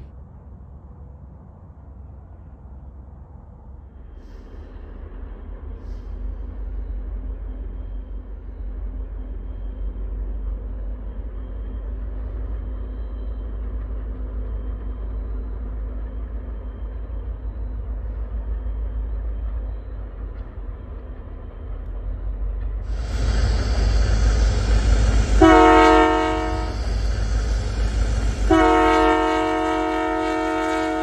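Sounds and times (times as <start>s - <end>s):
distant diesel locomotives rumbling: 0.0s - 31.0s.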